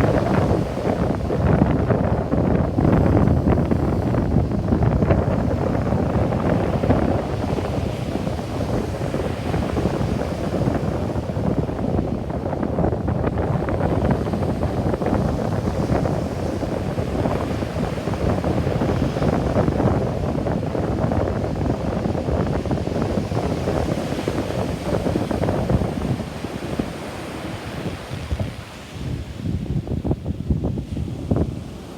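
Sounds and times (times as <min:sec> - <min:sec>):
surf washing on beach: 0:00.0 - 0:31.9
wind buffeting microphone: 0:00.0 - 0:31.9.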